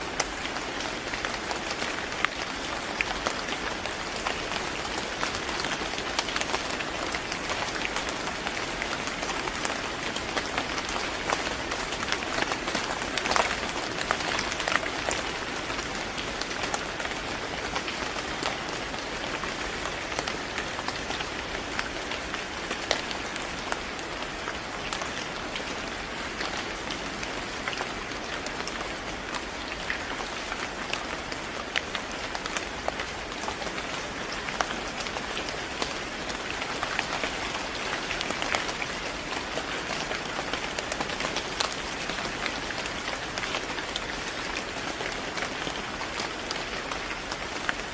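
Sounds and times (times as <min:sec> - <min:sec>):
rain pattering on a surface: 0:00.0 - 0:47.9.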